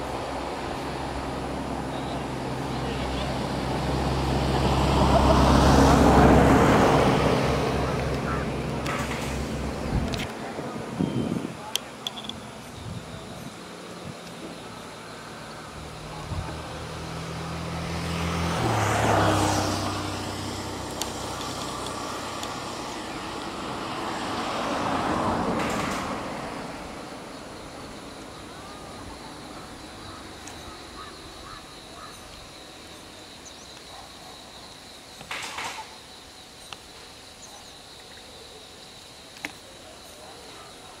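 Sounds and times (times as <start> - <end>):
road traffic passing: 0.0 - 41.0.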